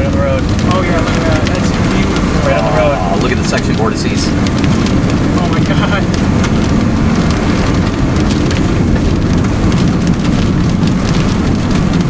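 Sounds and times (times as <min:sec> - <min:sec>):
road and wind rumble in car: 0:00.0 - 0:12.0.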